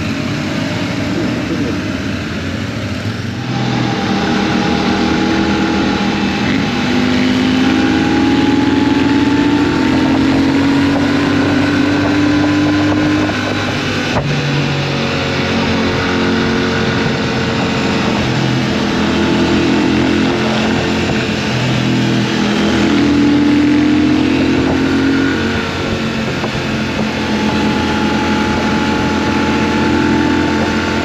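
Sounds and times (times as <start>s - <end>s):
motorcycle engine accelerating: 0.0s - 31.0s
wind rush: 0.0s - 31.0s.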